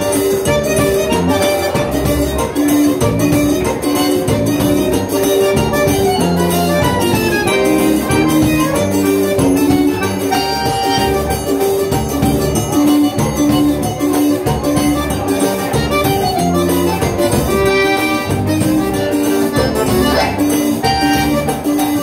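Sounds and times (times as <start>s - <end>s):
accordion melody: 0.0s - 22.0s
live band: 0.0s - 22.0s
steady percussive beat: 0.0s - 22.0s.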